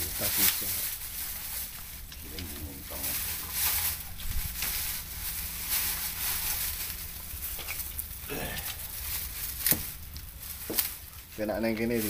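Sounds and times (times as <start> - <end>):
low rumble: 0.0 - 11.4
plastic bag and paper rustling: 0.0 - 12.0.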